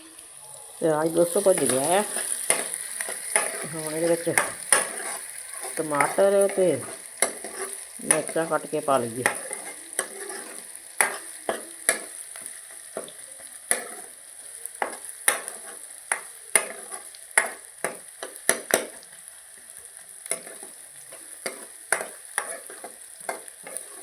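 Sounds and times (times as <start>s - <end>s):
onions sizzling in a pan: 0.0s - 24.0s
utensil scraping a pan: 1.2s - 13.1s, 13.7s - 14.2s, 14.8s - 19.0s, 20.3s - 24.0s.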